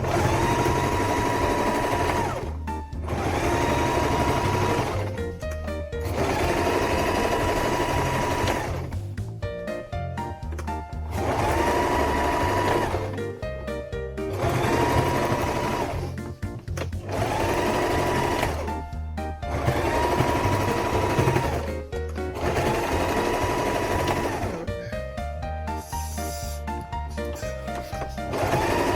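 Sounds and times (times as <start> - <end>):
sewing machine stitching: 0.0 - 9.2, 10.4 - 13.4, 14.3 - 24.9, 27.4 - 28.9
background music: 0.0 - 28.9.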